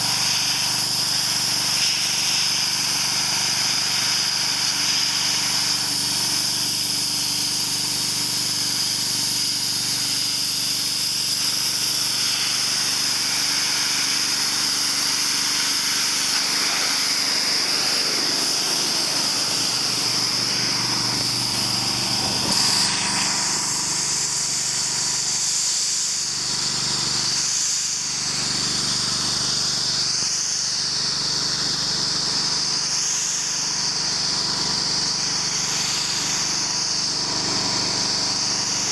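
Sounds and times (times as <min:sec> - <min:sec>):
high-pressure water spray hiss: 0:00.0 - 0:38.9
pressure washer engine drone: 0:00.0 - 0:38.9.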